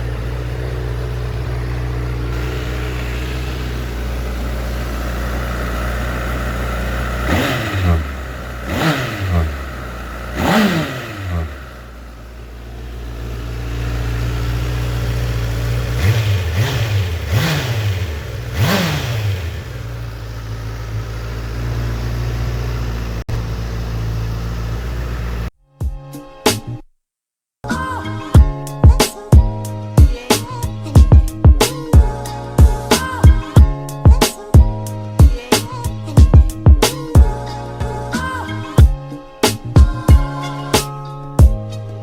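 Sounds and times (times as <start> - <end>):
motorcycle engine idling: 0.0 - 25.5, 28.4 - 40.3.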